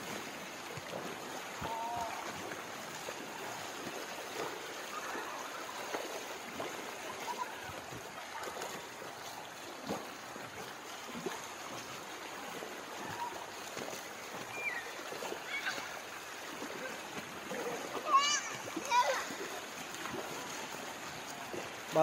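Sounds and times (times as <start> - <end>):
floodwater rushing over road: 0.0 - 22.0.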